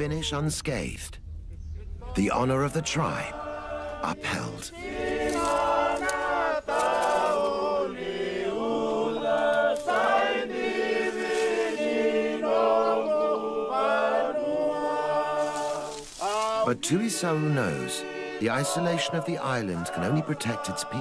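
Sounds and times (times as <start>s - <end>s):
group singing unaccompanied chant: 1.8s - 21.0s.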